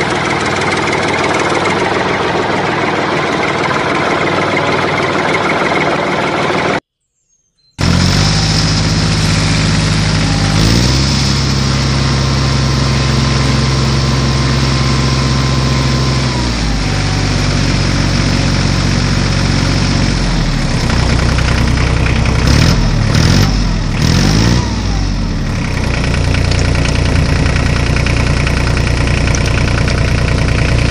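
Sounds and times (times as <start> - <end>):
vehicle engine idling and revving: 0.0 - 6.8, 7.8 - 30.9.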